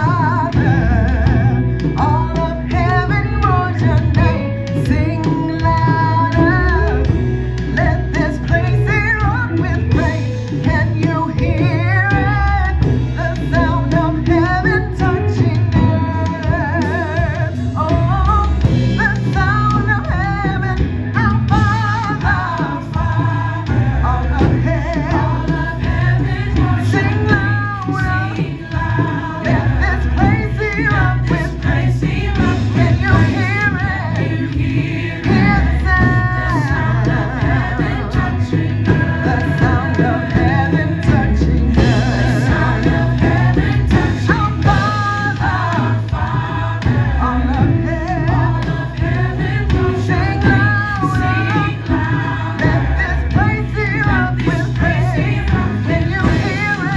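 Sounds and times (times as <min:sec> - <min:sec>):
instrumental backing with heavy bass: 0:00.0 - 0:56.9
voices singing gospel music: 0:00.0 - 0:56.9.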